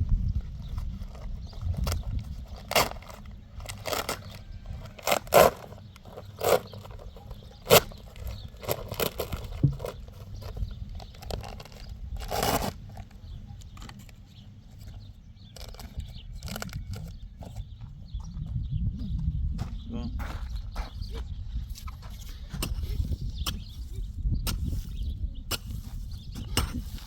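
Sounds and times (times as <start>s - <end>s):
knocks and crunching scrapes: 0.0s - 18.5s, 20.2s - 27.0s.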